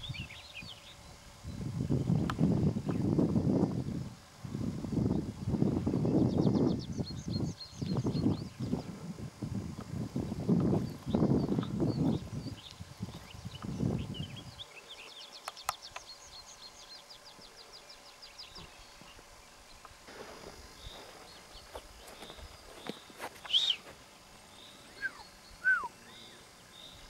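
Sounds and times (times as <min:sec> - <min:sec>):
songbirds singing: 0:00.0 - 0:03.8, 0:04.5 - 0:27.0.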